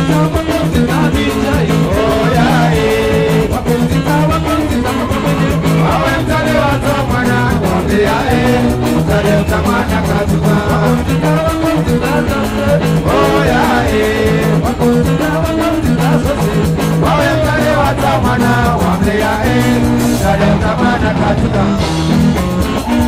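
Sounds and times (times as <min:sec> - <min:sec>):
live band with bass line: 0:00.0 - 0:23.0
man singing: 0:00.0 - 0:23.0.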